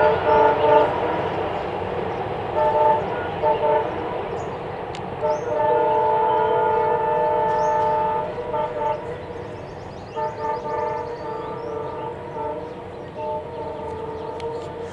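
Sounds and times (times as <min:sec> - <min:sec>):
diesel locomotive horn: 0:00.0 - 0:04.6, 0:05.2 - 0:14.9
train rumbling past: 0:00.0 - 0:14.9.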